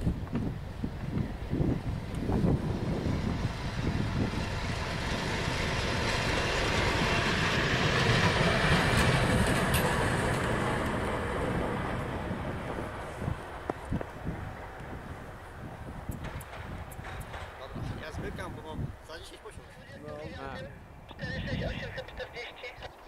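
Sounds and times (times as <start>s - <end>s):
train rumbling past: 0.0s - 20.2s.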